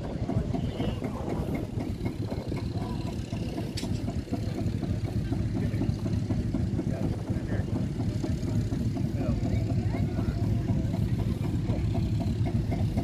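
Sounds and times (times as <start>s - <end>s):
engine idling: 0.0s - 13.0s
faint voices: 0.0s - 13.0s.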